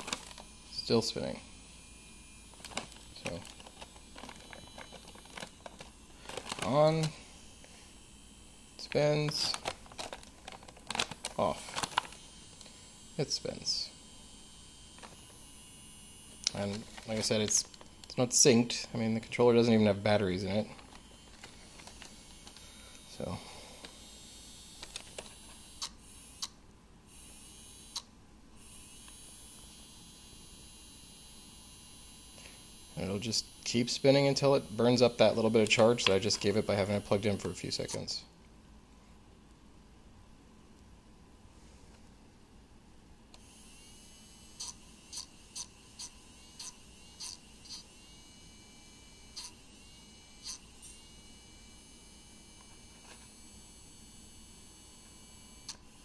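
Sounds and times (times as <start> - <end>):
tiny motor high whine: 0.0 - 38.1, 43.3 - 56.0.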